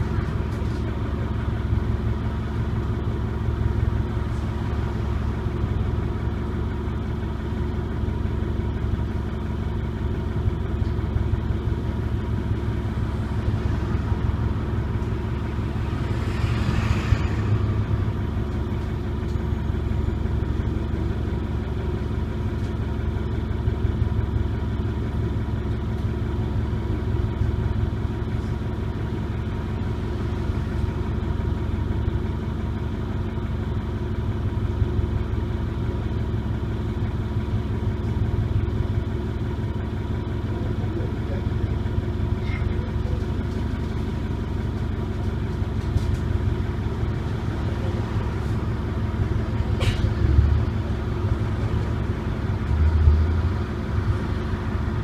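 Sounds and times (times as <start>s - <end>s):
bus diesel engine idling: 0.0s - 55.0s.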